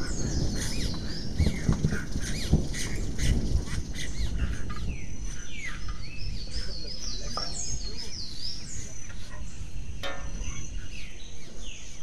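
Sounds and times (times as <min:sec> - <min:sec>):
birds chirping chorus: 0:00.0 - 0:12.0.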